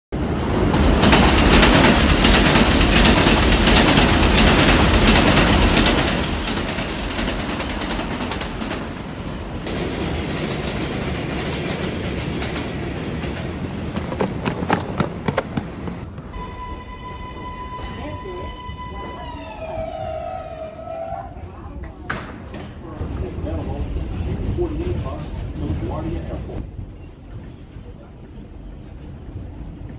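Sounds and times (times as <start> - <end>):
subway train running on tracks: 0.1 - 29.9.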